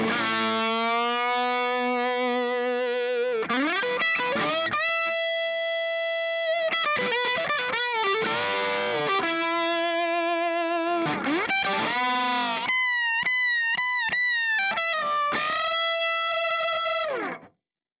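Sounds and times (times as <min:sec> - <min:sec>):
overdriven electric guitar lead: 0:00.0 - 0:17.5.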